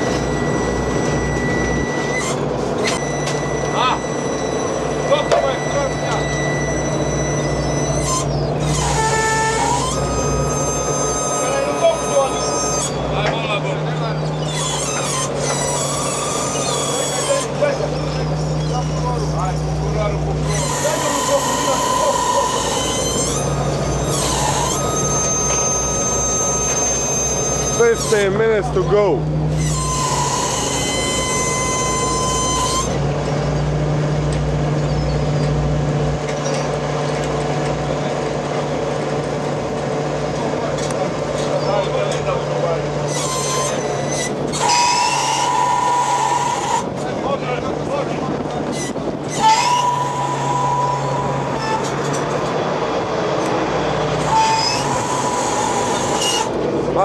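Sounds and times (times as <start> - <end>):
high metallic squeal: 0.0 - 33.7, 41.4 - 47.4, 48.7 - 52.5, 54.0 - 56.6
deck machinery humming: 0.0 - 57.0
diesel engine drone: 0.0 - 57.0
high whine: 0.0 - 57.0.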